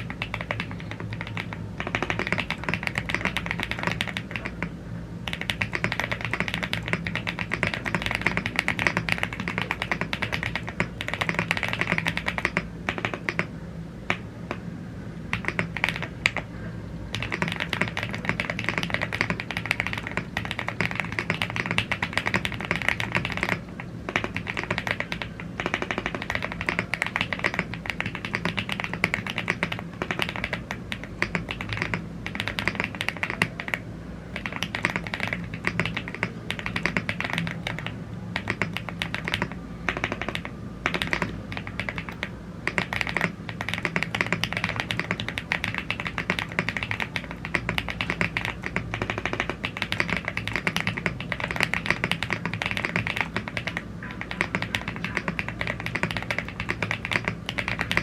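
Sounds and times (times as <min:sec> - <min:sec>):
fast typing on mechanical keyboard: 0:00.0 - 0:13.5, 0:15.2 - 0:16.5, 0:17.1 - 0:58.0.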